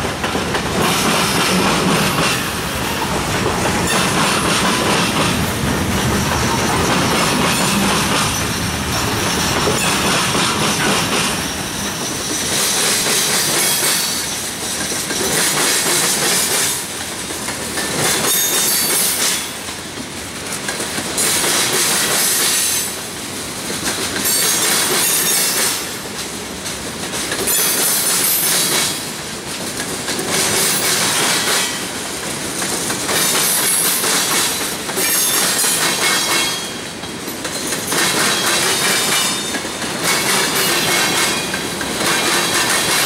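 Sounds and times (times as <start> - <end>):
train wheels rolling on rail: 0.0 - 43.0.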